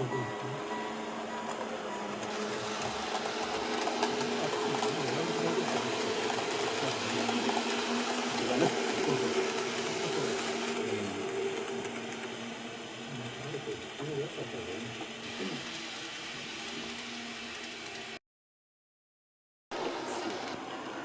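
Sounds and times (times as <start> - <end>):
model train running on track: 0.0 - 18.2, 19.8 - 21.0.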